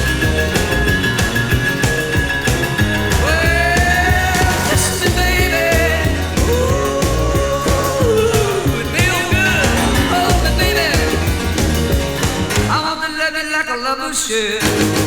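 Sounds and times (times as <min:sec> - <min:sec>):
rock and roll music: 0:00.0 - 0:13.8, 0:14.4 - 0:15.0.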